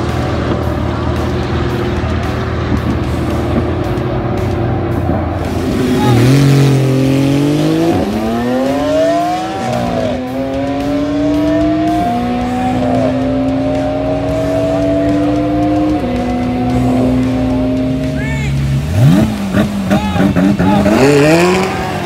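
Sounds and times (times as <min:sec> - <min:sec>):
sports car accelerating hard: 0:00.0 - 0:22.0.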